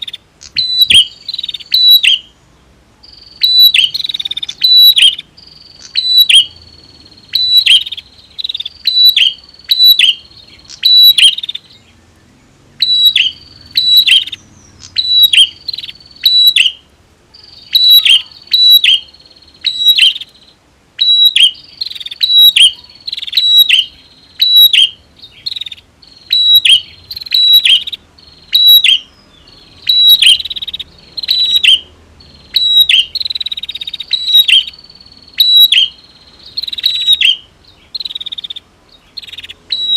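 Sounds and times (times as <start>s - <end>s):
bird calling sharp chipping notes: 0.0s - 2.4s, 3.1s - 12.0s, 12.8s - 39.9s.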